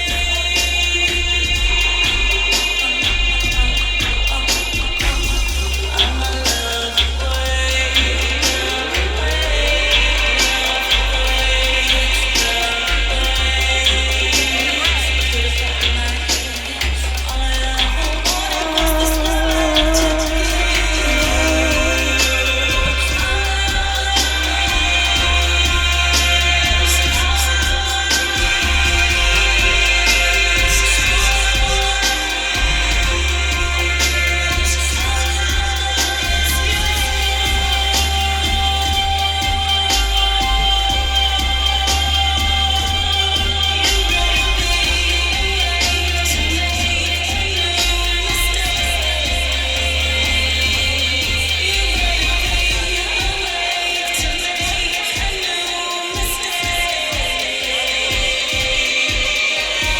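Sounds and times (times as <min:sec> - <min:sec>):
electronic dance music: 0:00.0 - 0:59.9
person singing: 0:00.0 - 0:59.9.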